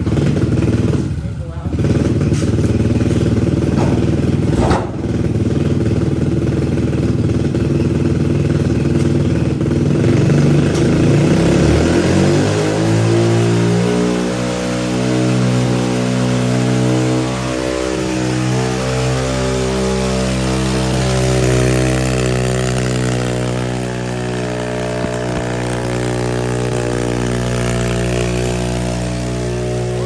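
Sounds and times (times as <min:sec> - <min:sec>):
motorbike engine over-revving: 0:00.0 - 0:30.0.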